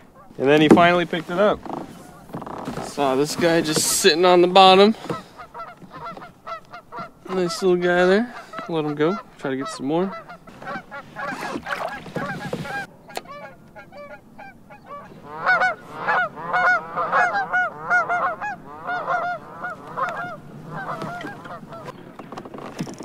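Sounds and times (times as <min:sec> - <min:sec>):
geese honking: 0:00.0 - 0:21.9.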